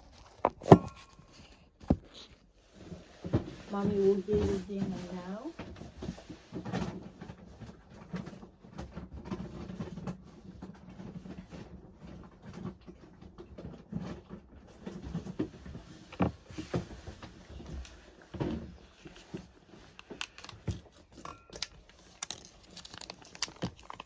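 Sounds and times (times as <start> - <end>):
rustling: 0.0 - 24.0.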